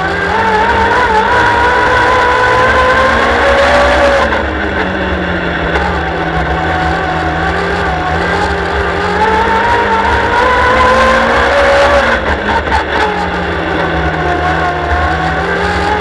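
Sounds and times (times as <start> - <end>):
race car engine: 0.0 - 16.0.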